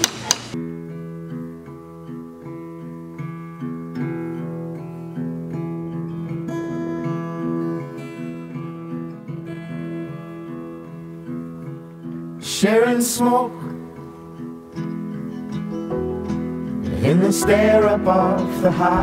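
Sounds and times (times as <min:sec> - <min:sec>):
acoustic guitar picked pattern: 0:00.2 - 0:19.0.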